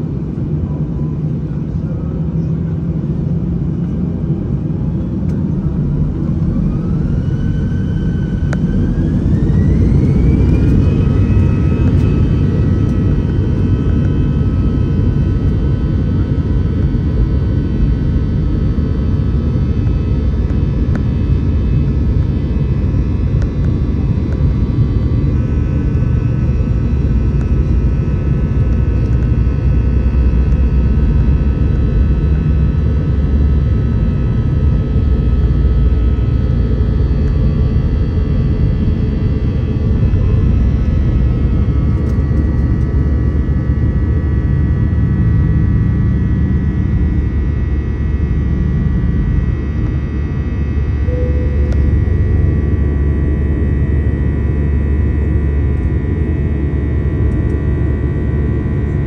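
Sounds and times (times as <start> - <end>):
jet engines roaring in cabin: 0.0 - 59.0
engine whining tones: 5.2 - 58.1.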